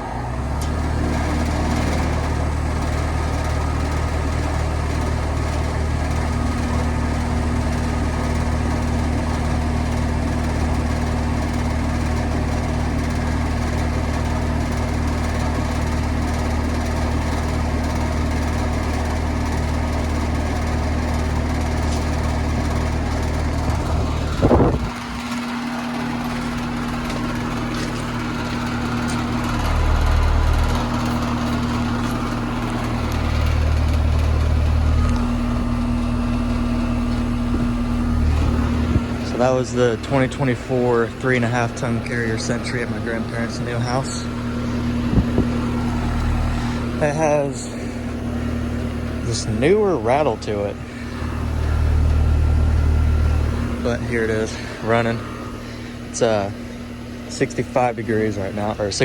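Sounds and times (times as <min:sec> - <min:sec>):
air conditioner unit humming: 0:00.0 - 0:59.0.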